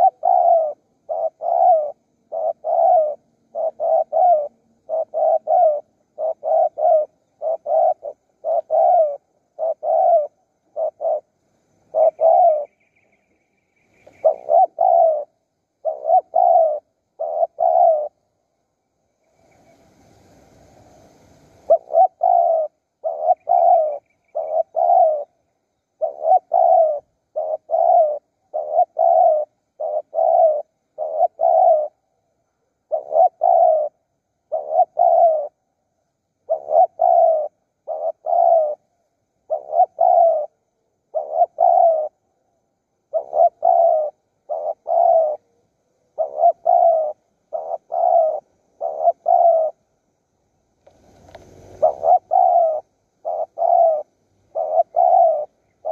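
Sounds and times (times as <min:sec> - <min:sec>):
dove calling: 0:00.0 - 0:50.0, 0:50.8 - 0:55.9.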